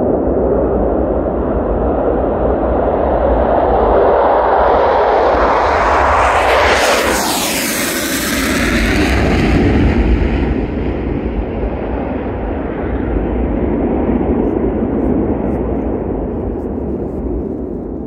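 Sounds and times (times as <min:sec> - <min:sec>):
jet engines roaring: 0:00.0 - 0:18.0
low rumble: 0:00.0 - 0:18.0.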